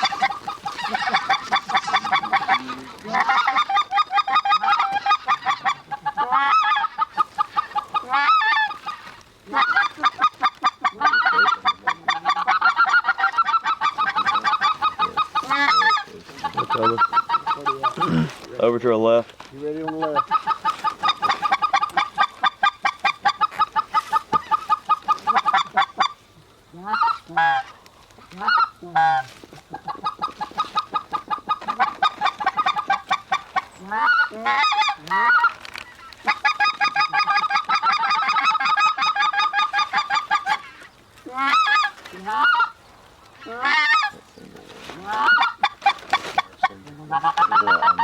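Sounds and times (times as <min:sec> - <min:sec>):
goose honking and clucking: 0:00.0 - 0:18.5, 0:19.6 - 0:42.8, 0:43.4 - 0:48.0.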